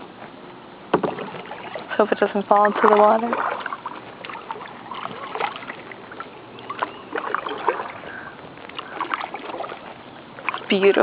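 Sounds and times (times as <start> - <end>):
water splashing from paddle: 0.9 - 11.0.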